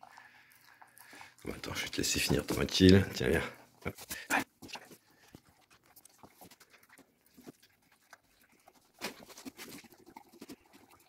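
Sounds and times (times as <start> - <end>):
dog licking and smacking: 0.1 - 11.0.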